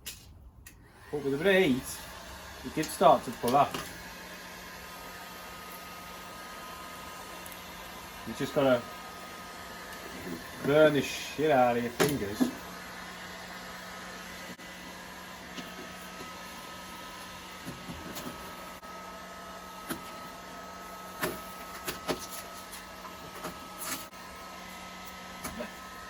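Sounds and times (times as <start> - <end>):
heat gun blowing: 0.7 - 26.0.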